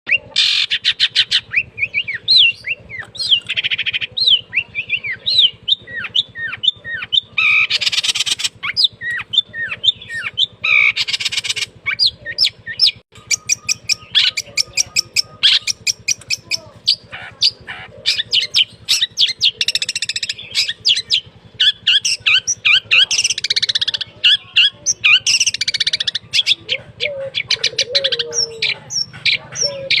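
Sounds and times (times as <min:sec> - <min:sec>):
bird singing chirps: 0:00.1 - 0:30.0
harsh rasping bird notes: 0:00.1 - 0:30.0.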